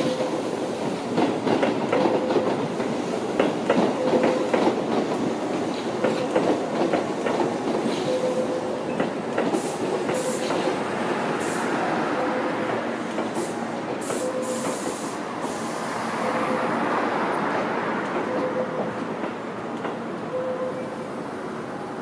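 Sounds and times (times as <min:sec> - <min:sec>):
train wheels rumbling on rails: 0:00.0 - 0:20.4.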